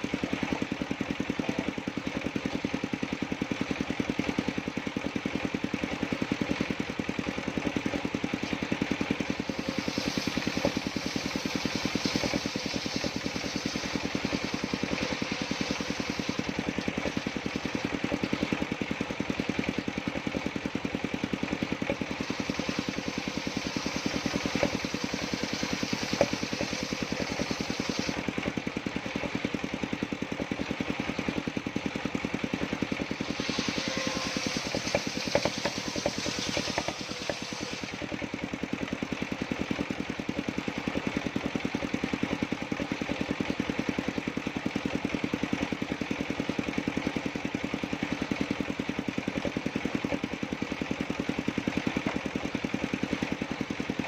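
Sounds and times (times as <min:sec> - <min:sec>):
saw rig engine running: 0:00.0 - 0:54.0.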